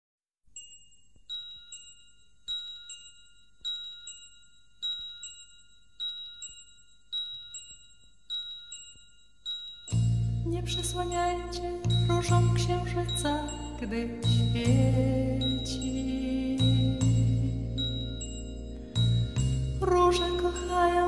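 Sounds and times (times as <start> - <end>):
bell-like chimes ringing: 0.6 - 21.0.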